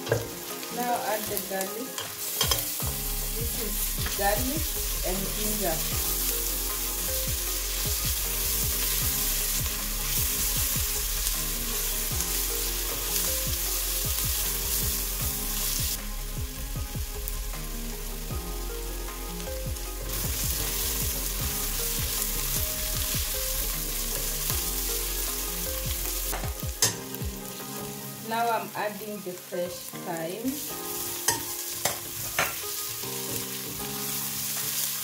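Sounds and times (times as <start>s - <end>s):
vegetables sizzling in oil: 0.0s - 35.0s.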